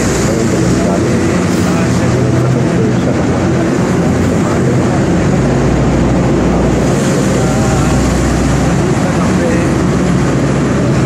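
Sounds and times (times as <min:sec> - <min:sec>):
vehicle engines rumbling in tunnel: 0:00.0 - 0:11.0.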